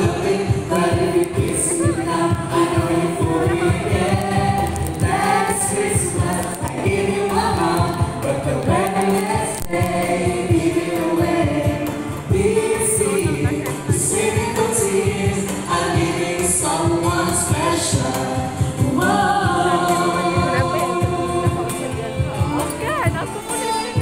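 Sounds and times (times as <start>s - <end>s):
group singing in harmony: 0.0s - 24.0s.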